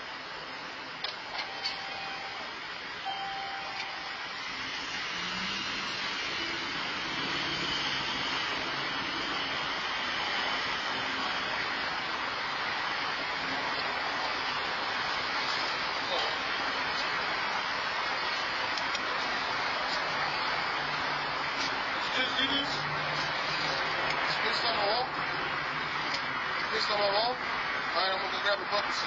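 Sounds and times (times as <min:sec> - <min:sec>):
road traffic rush: 0:00.0 - 0:29.0.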